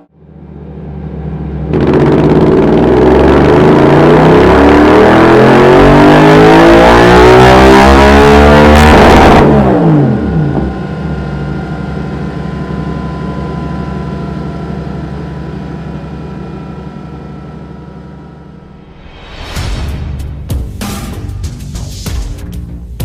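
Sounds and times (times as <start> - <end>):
motorcycle engine revving and idling: 0.0 - 18.9.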